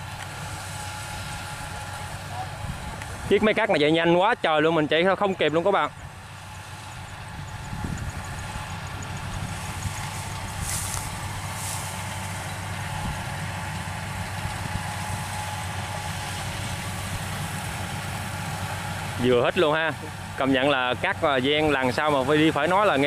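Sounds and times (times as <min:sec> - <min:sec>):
combine harvester engine droning: 0:00.0 - 0:23.0.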